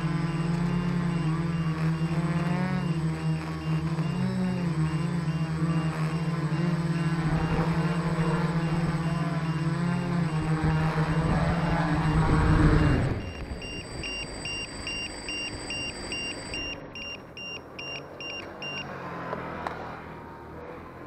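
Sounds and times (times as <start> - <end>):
drone motors humming: 0.0 - 18.8
short high electronic beeps: 0.2 - 18.8.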